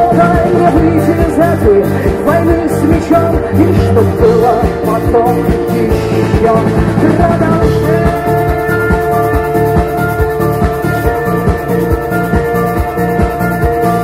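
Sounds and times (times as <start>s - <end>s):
bass: 0.0s - 14.0s
drums: 0.0s - 14.0s.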